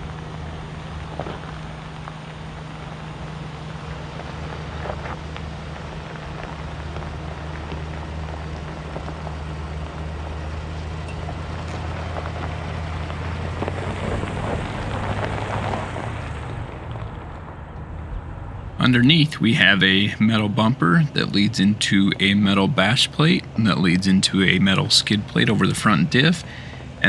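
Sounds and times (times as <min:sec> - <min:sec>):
truck engine running: 0:00.0 - 0:27.0
tyres crunching on gravel: 0:00.0 - 0:27.0.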